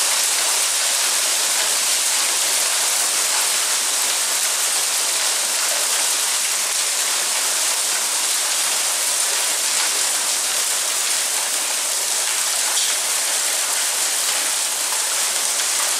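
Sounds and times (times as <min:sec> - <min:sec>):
hail falling on tiles: 0:00.0 - 0:15.9.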